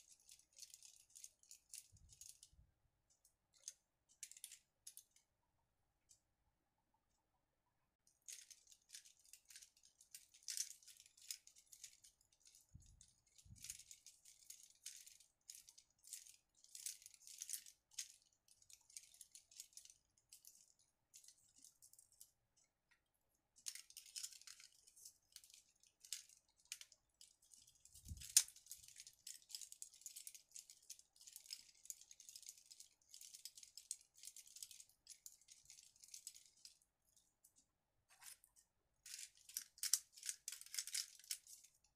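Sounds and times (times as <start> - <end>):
plastic rustling and rattling: 0.0 - 5.2, 8.2 - 22.7, 23.6 - 41.9.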